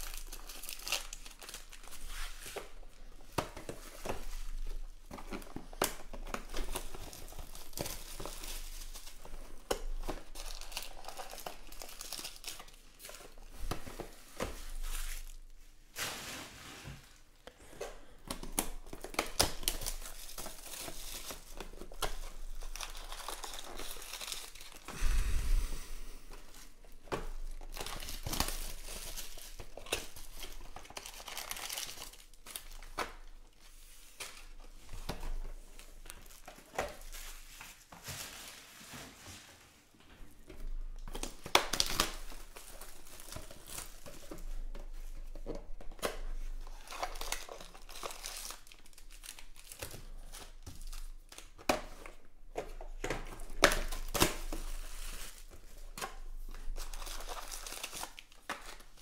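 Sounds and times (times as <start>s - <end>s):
plastic shrink wrap crinkling: 0.0s - 39.3s, 40.4s - 59.0s
foil packs rustling: 0.0s - 39.7s, 40.4s - 59.0s.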